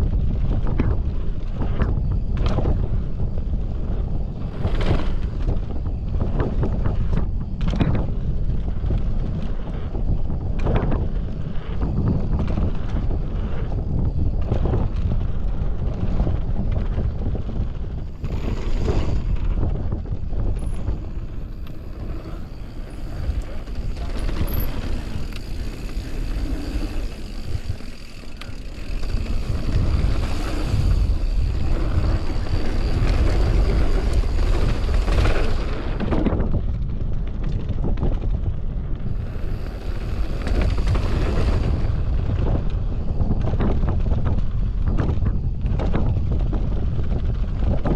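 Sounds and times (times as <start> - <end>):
bike rattling over bumps: 0.0 - 47.9
bike tyres on dirt: 0.0 - 47.9
wind over microphone: 0.0 - 47.9.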